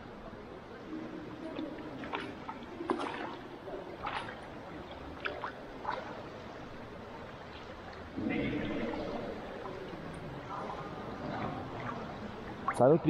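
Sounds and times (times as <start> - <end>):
water sloshing and lapping: 0.0 - 13.0
short water splashes: 1.1 - 13.0.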